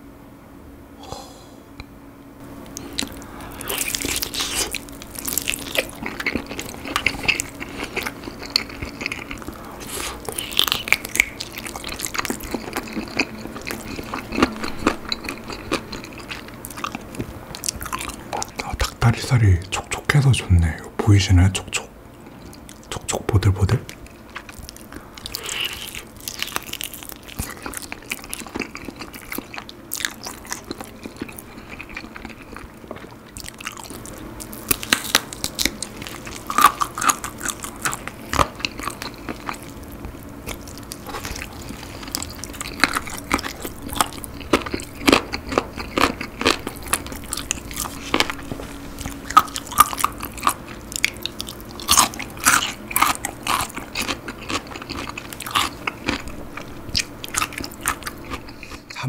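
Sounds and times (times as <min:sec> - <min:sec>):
biting and chewing: 0:02.6 - 0:20.3, 0:23.9 - 0:59.0.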